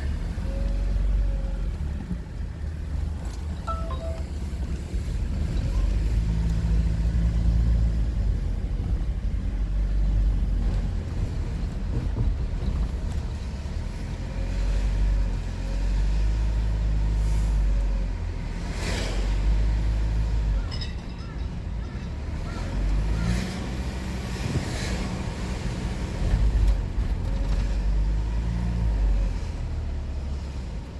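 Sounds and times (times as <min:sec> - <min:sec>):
car road and engine rumble: 0:00.0 - 0:30.9.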